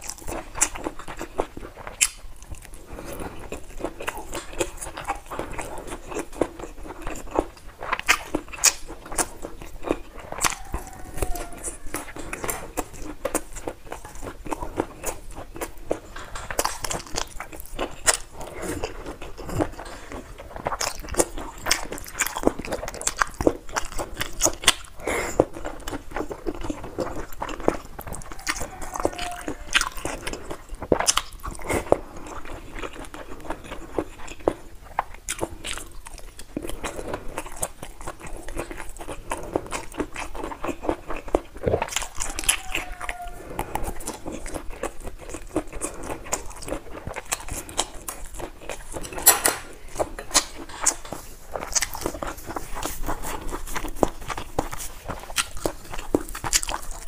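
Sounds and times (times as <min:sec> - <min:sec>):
chewing crunchy food: 0:00.0 - 0:57.0.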